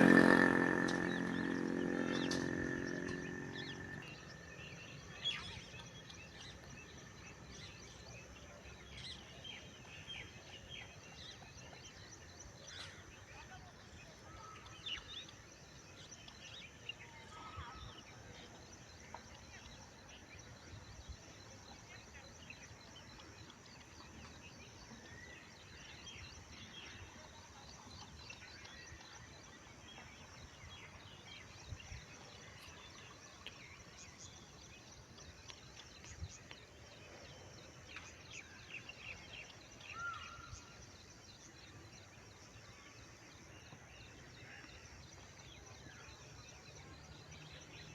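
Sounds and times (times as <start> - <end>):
bird chirps: 0.0 - 47.9.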